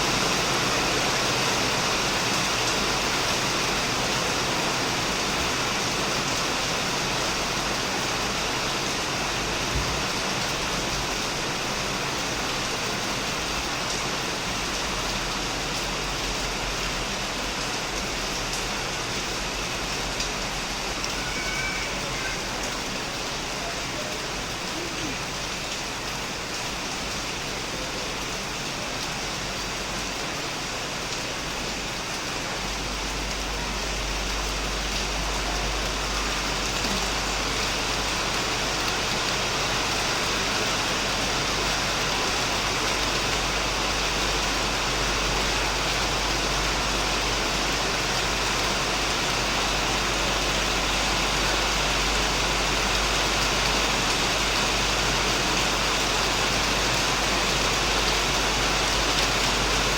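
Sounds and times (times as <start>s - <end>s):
heavy rain on a shed: 0.0s - 59.9s.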